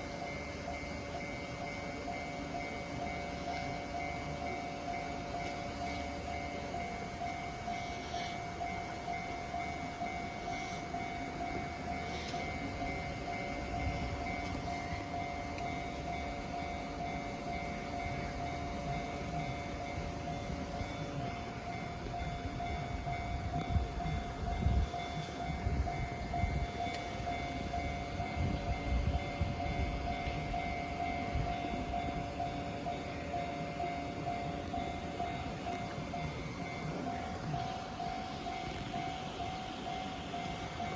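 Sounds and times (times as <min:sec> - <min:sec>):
level crossing bell ringing: 0:00.0 - 0:40.9.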